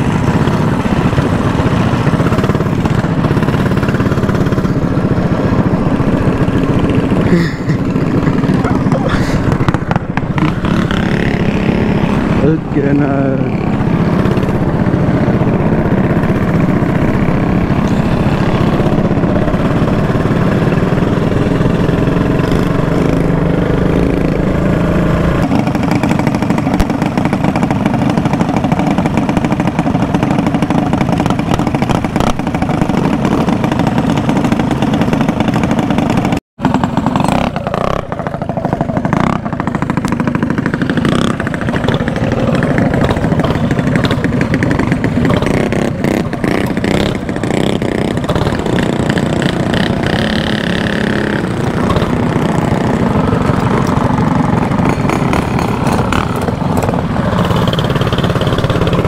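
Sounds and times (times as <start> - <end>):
mini bike engines running: 0.0 - 59.0.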